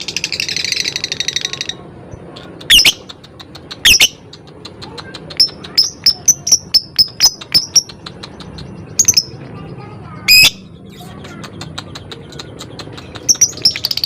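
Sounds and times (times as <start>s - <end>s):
bird ticking chirps: 2.4s - 14.0s.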